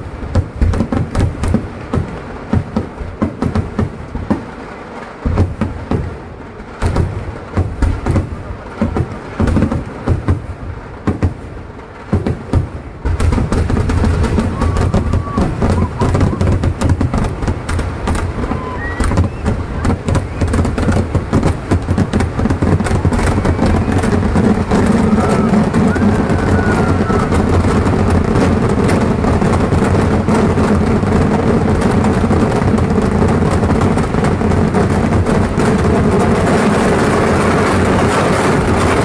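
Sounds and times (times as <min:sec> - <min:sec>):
fireworks exploding: 0:00.0 - 0:39.0.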